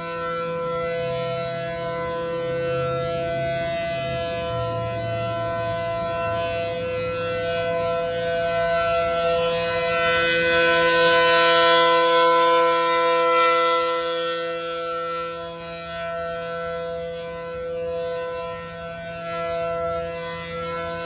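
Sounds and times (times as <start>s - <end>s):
rotating warning siren: 0.0s - 21.0s.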